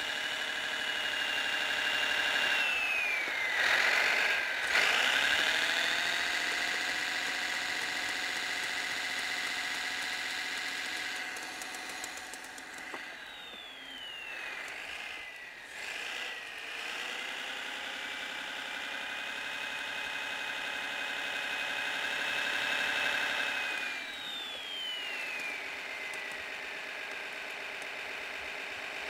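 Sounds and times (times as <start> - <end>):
simulated engine through small speaker: 0.0 - 29.0.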